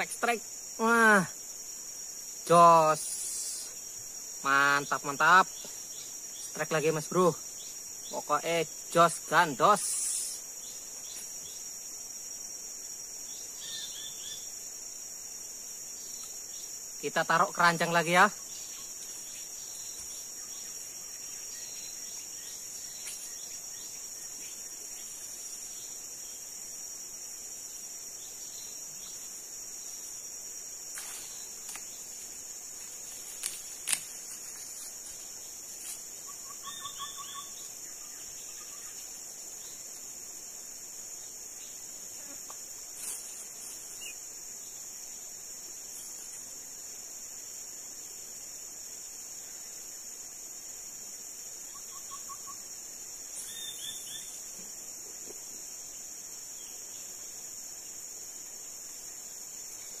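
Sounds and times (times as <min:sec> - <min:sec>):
high-pitched insect chorus: 0:00.0 - 1:00.0.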